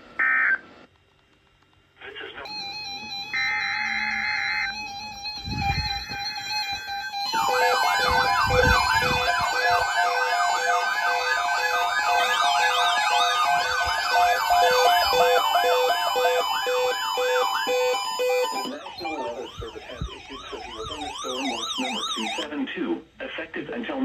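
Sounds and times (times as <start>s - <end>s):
digital data tones: 2.5s - 22.4s
electronic siren alert tone: 2.5s - 22.5s
steady beeping tones: 2.5s - 22.5s.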